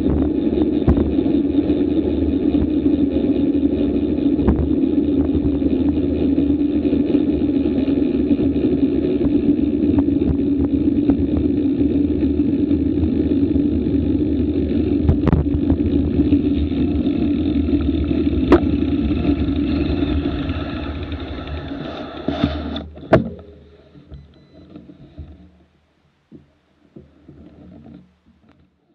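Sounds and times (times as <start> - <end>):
road and wind rumble: 0.0 - 25.4.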